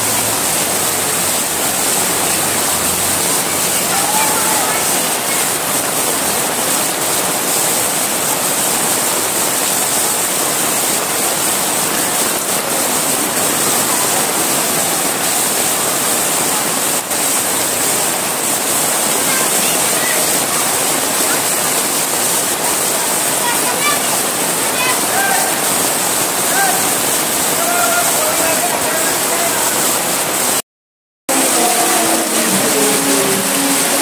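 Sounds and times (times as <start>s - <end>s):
heavy rain pouring: 0.0s - 30.6s, 31.3s - 34.0s
water running over street: 0.0s - 30.6s, 31.3s - 34.0s.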